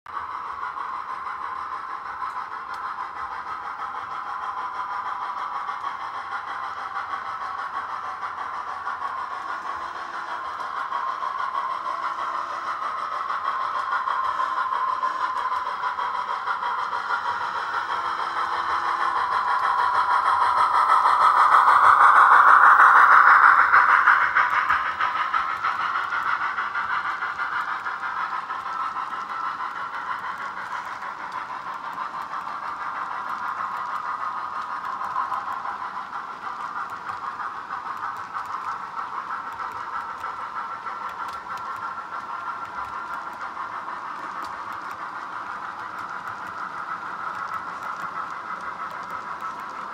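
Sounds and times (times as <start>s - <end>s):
model train rumbling on rails: 0.1s - 49.9s.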